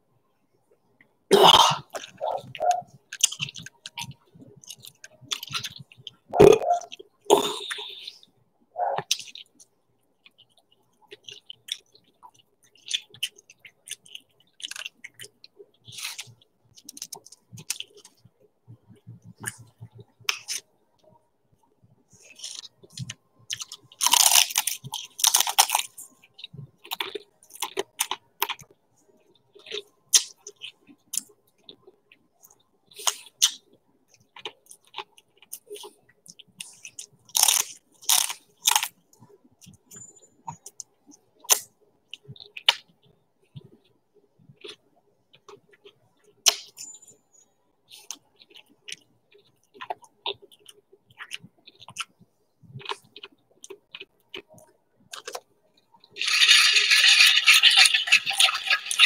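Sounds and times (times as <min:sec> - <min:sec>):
chewing crisp snack food: 0:01.3 - 0:59.0.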